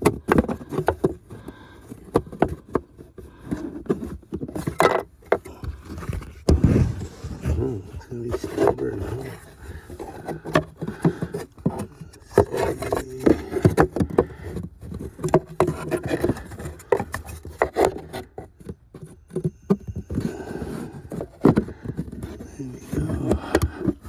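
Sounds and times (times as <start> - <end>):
plastic door knocking and scraping: 2.0 - 22.4.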